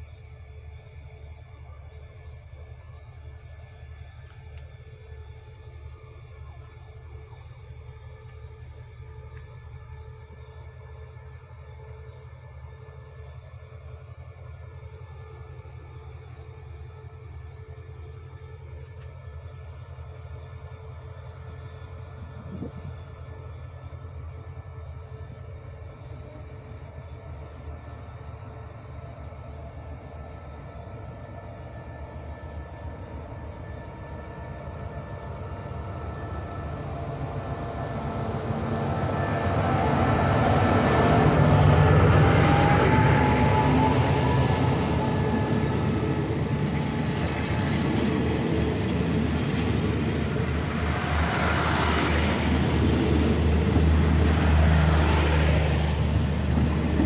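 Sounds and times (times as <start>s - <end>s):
diesel locomotive engine running: 0.0s - 57.0s
passenger coaches rolling past: 0.0s - 57.0s.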